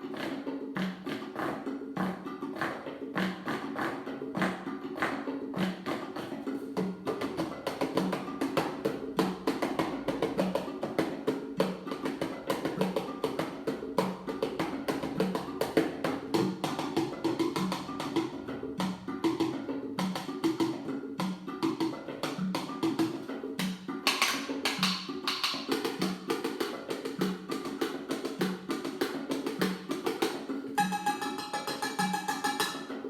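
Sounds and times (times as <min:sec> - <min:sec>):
hand percussion music: 0:00.0 - 0:33.0.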